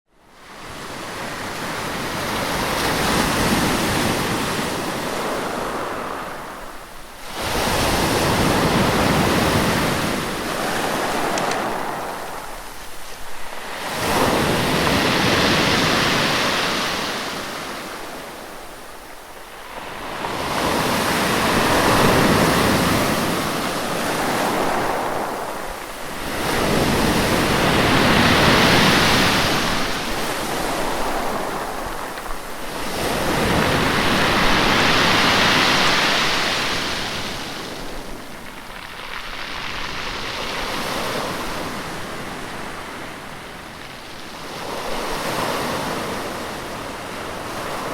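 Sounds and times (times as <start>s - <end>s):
sea waves breaking on shore: 0.3s - 47.9s.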